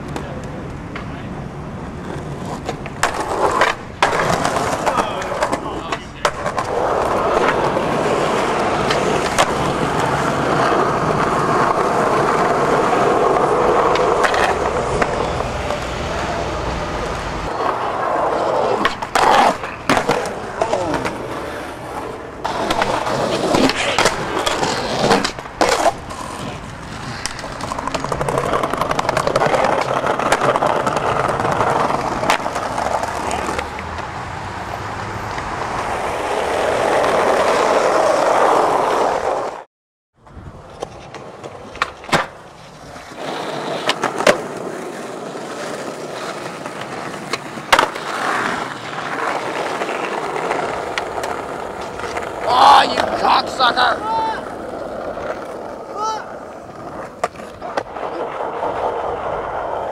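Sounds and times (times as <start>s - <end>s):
skateboard wheels rolling: 0.0s - 59.9s
skateboard popping and landing: 1.8s - 39.6s, 40.2s - 59.9s.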